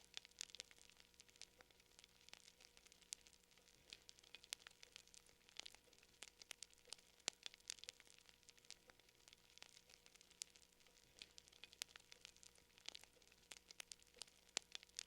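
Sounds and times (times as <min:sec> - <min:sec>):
faint wood fire crackling: 0:00.0 - 0:15.0.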